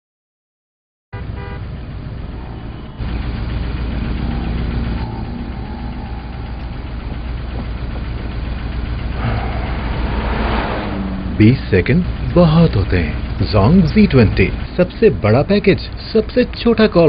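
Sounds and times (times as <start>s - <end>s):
car engine idling: 1.2s - 17.0s.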